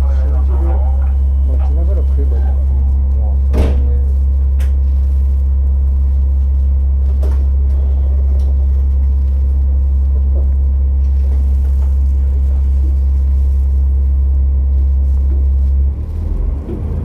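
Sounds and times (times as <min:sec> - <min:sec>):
muffled train drone: 0:00.0 - 0:17.0.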